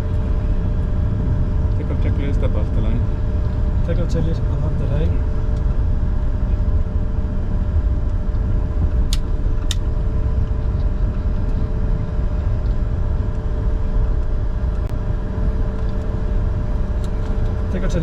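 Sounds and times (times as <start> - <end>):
jet engines idling rumble: 0.0 - 18.0.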